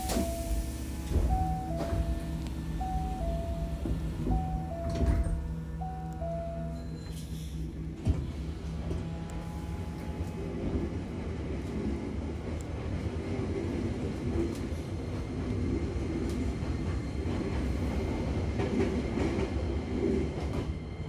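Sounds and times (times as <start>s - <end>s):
electric train wheels and motors: 0.0s - 21.0s.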